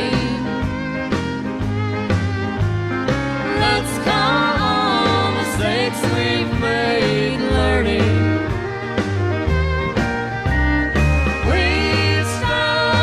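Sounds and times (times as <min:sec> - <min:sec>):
bass and drums beat: 0:00.0 - 0:13.0
country band playing: 0:00.0 - 0:13.0
sliding bending lead notes: 0:00.0 - 0:13.0.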